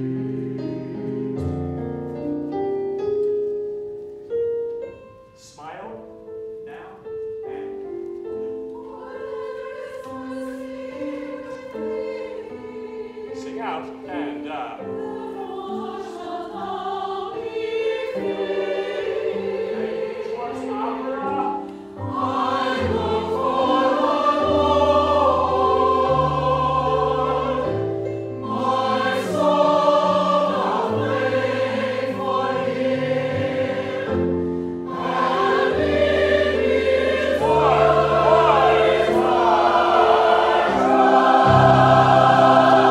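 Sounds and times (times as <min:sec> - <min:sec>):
mixed choir singing: 0:08.5 - 0:42.9.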